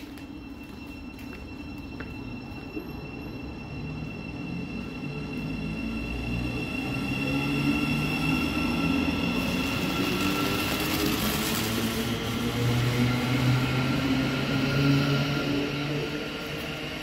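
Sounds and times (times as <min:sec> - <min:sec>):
train whining: 0:00.0 - 0:17.0.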